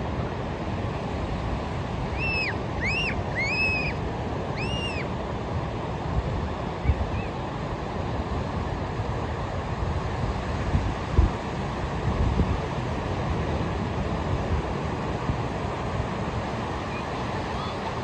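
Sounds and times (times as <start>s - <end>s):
ocean surf on a beach: 0.0s - 18.0s.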